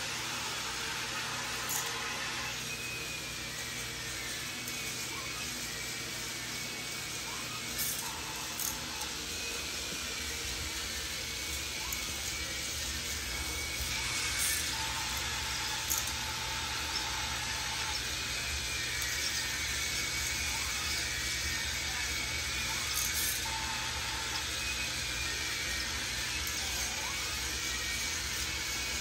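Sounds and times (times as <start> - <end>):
toy motors and chains whirring: 0.0 - 29.0.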